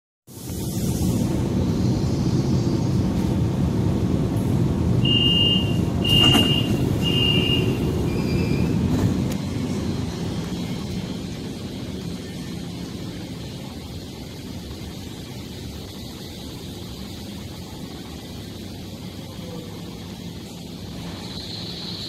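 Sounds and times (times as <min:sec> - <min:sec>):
train low rumble: 0:00.3 - 0:22.0.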